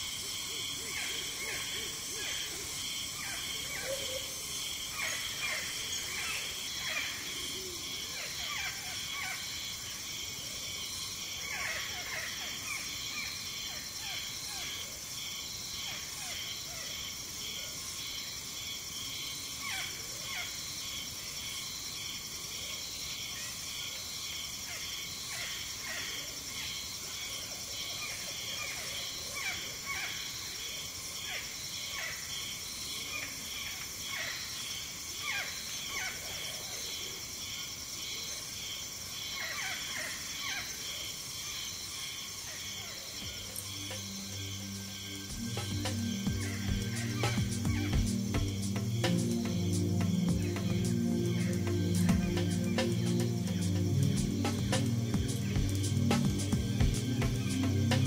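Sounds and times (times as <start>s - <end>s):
high-pitched insect chorus: 0.0s - 58.0s
pulsing insect trill: 0.0s - 58.0s.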